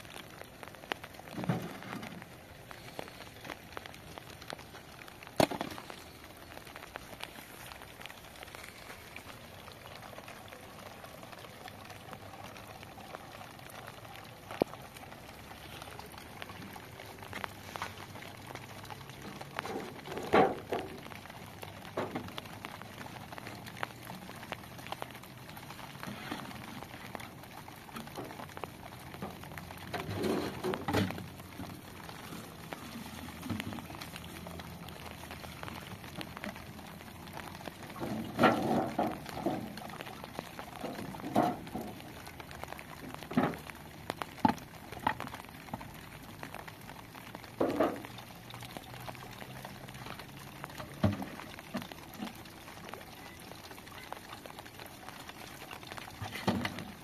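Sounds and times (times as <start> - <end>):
water gurgling from jugs: 0.0 - 57.0.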